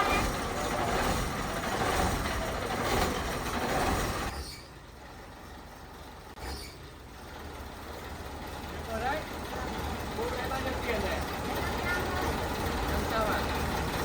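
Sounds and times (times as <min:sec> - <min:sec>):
heavy truck running: 0:00.0 - 0:14.0.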